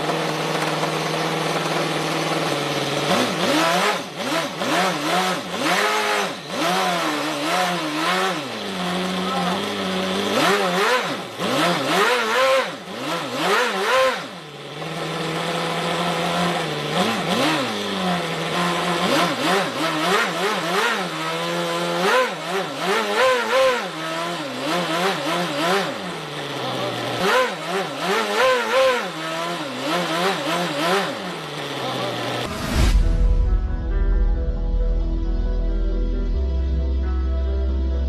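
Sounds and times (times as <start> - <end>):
model engine revving and idling: 0.0 - 32.8.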